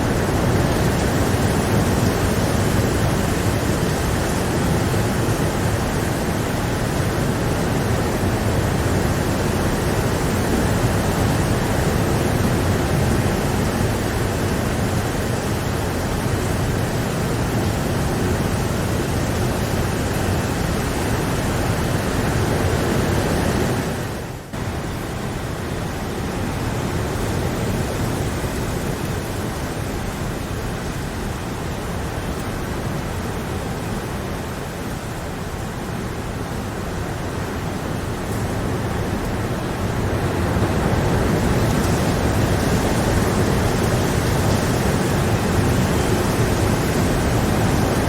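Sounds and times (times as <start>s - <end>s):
heavy rainfall: 0.0s - 48.0s.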